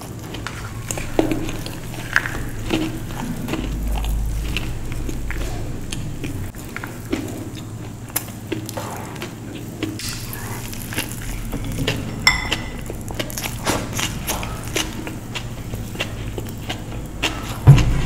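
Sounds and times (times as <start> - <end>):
person chewing and biting food: 0.0 - 18.0.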